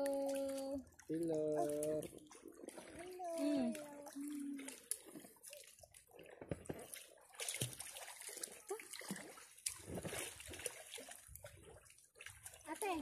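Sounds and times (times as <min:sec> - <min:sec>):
sea water sloshing and lapping: 0:00.0 - 0:13.0
small water splashes: 0:00.0 - 0:13.0.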